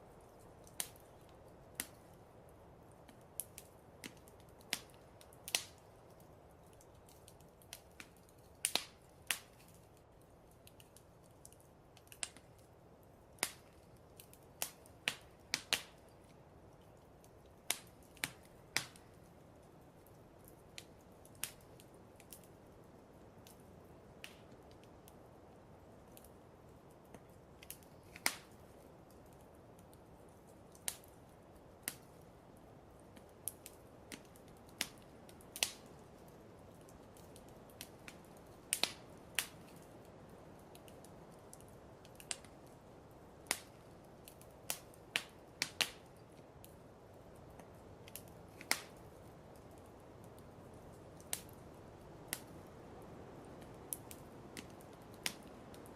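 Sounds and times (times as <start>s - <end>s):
low hiss: 0.0s - 55.9s
wood fire crackling: 0.0s - 55.9s.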